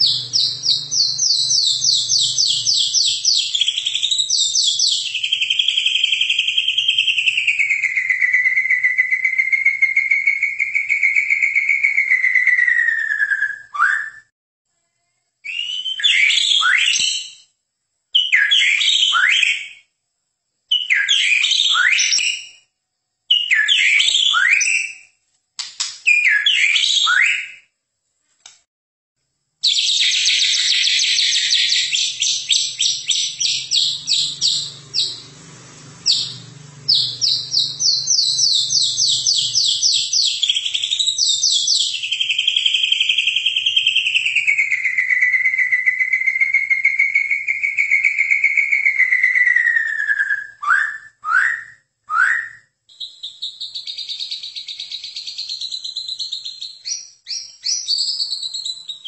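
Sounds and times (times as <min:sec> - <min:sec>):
bird singing: 0:00.0 - 0:14.3, 0:15.4 - 0:17.5, 0:18.1 - 0:19.9, 0:20.7 - 0:22.7, 0:23.3 - 0:25.2, 0:26.0 - 0:27.7, 0:29.6 - 0:59.0.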